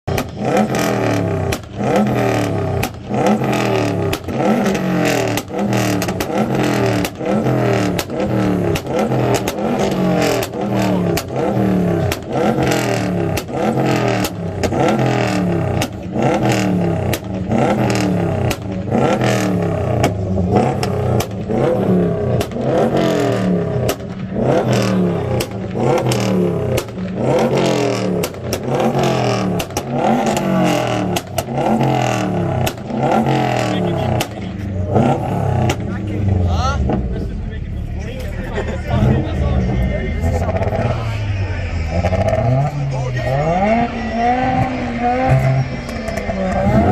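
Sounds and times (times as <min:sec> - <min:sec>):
loud car engine revving: 0:00.0 - 0:46.9
exhaust cracks: 0:00.1 - 0:46.9.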